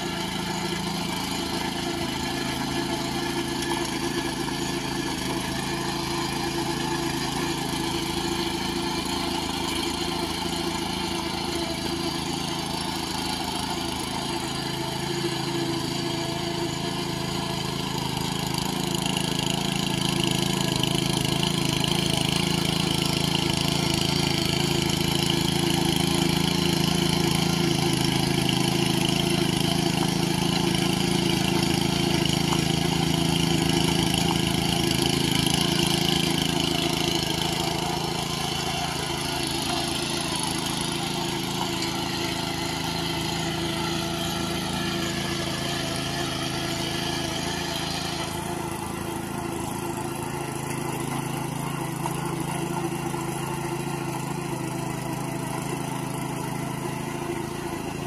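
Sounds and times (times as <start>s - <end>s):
power tiller engine running: 0.0s - 58.0s.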